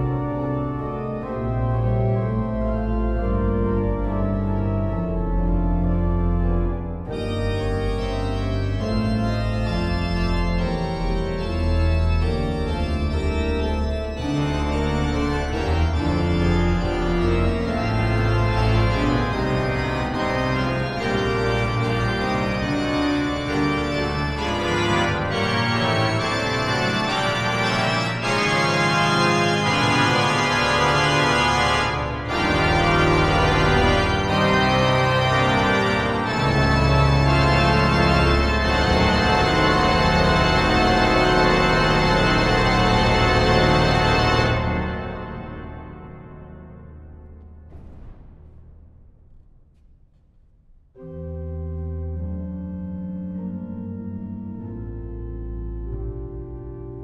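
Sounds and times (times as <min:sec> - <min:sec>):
pipe organ chords: 0:00.0 - 0:48.2, 0:51.0 - 0:57.0.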